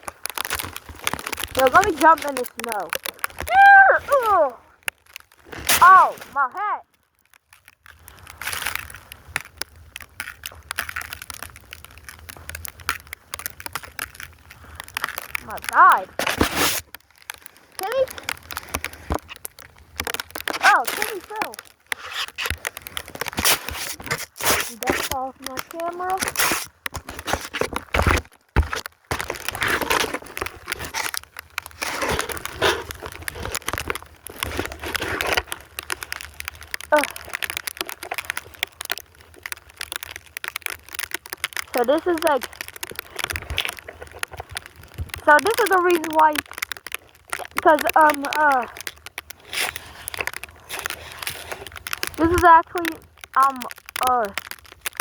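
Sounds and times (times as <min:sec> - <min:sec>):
snow crunching and crackling: 0:00.0 - 0:55.0.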